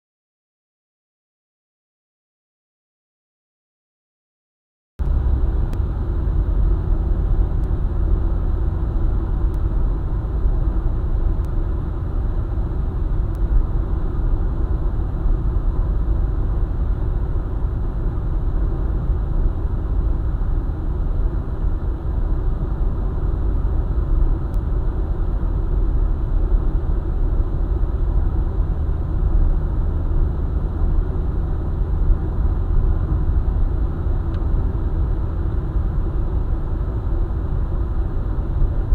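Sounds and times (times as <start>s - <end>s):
vehicle driving on highway: 5.0s - 38.9s.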